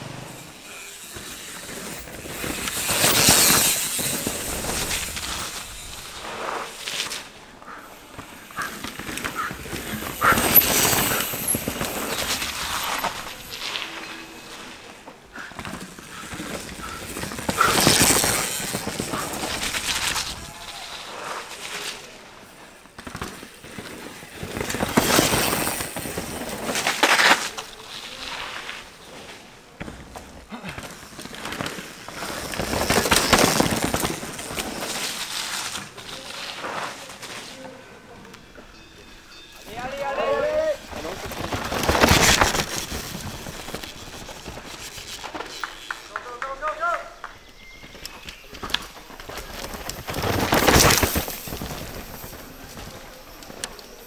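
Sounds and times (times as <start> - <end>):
mountain bikes passing: 0.0 - 54.0
tyres skidding and rattling: 0.0 - 54.0.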